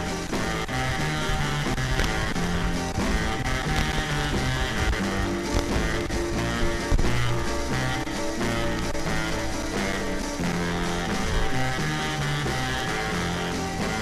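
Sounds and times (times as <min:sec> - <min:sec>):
rock music with guitar and bass: 0:00.0 - 0:14.0.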